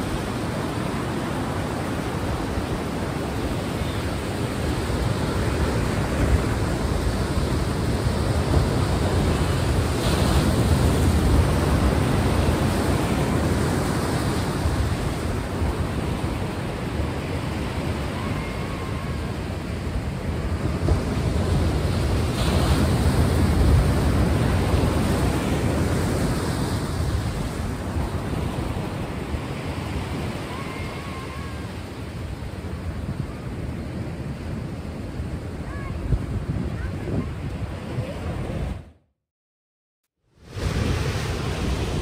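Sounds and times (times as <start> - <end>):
sea waves washing: 0.0 - 38.8, 40.4 - 42.0.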